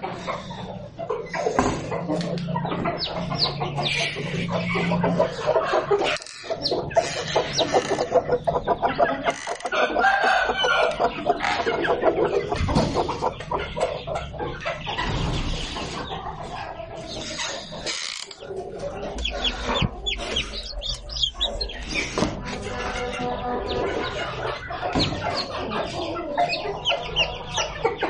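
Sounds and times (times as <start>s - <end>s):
chickens clucking: 0.0s - 28.0s
chicks peeping: 0.0s - 28.0s.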